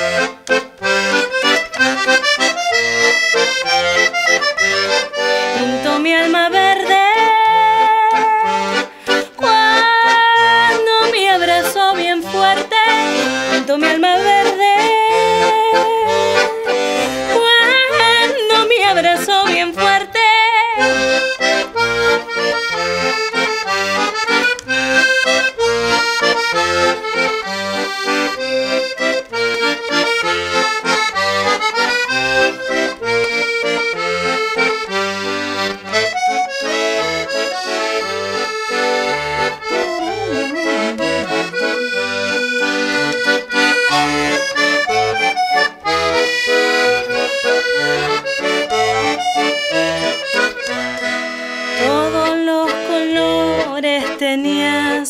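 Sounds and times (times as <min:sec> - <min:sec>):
piano accordion playing: 0:00.0 - 0:55.0.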